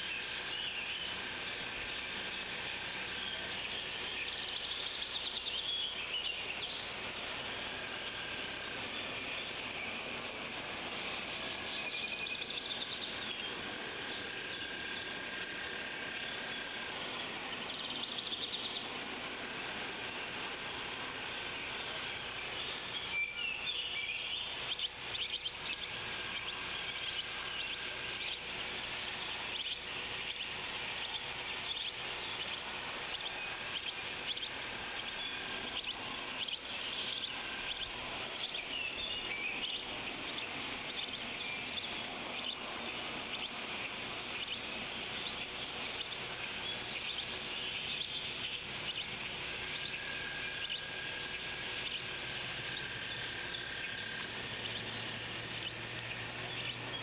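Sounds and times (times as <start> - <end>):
birds chirping and singing: 0.0 - 57.0
steady high-pitched hiss: 0.0 - 57.0.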